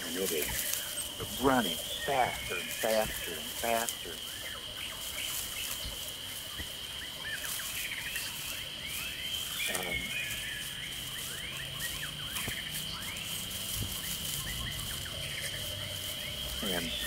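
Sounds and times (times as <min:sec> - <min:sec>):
chirping calls: 0:00.0 - 0:17.0
high insect drone: 0:00.0 - 0:17.0.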